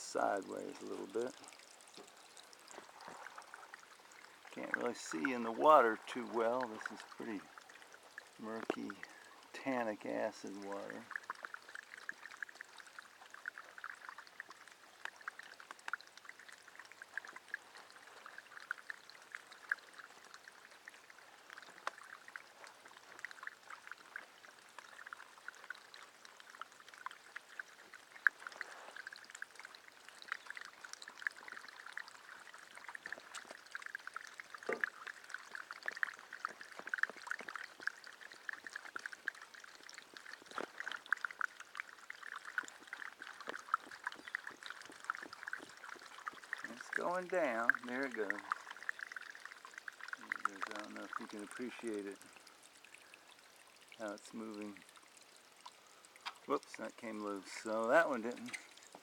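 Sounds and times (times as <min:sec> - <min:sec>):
water pouring and bubbling: 0:00.0 - 0:59.0.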